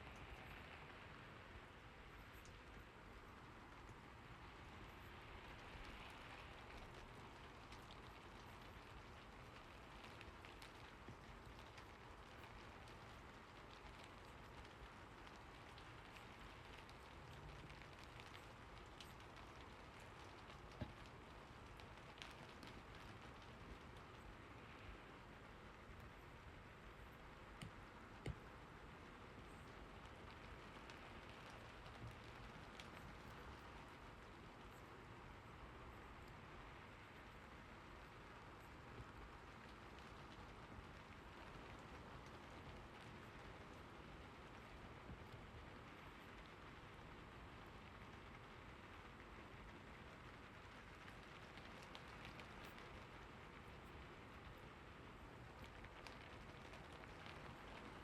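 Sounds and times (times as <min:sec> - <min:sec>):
faint steady rain: 0:00.0 - 0:58.0.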